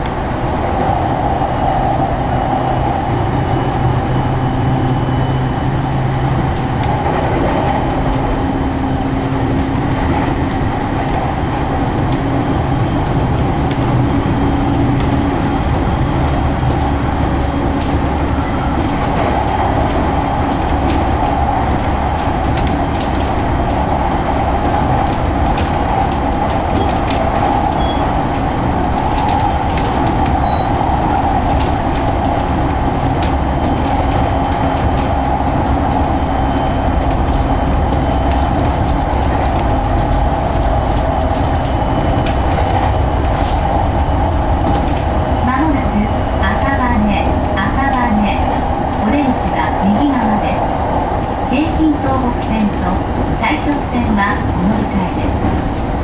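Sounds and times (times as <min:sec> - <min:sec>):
low train hum: 0:00.0 - 0:56.0
wheels rumbling on rails: 0:00.0 - 0:56.0.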